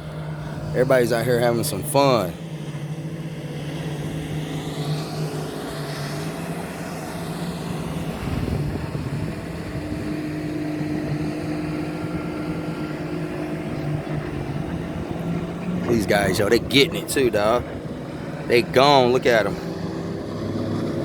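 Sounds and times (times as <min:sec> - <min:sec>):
higher engine tone: 0:00.0 - 0:21.0
watercraft engine running: 0:00.0 - 0:21.0.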